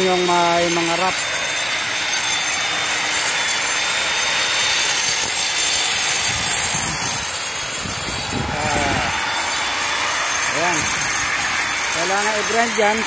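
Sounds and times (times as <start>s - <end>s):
angle grinder grinding concrete: 0.0s - 13.0s.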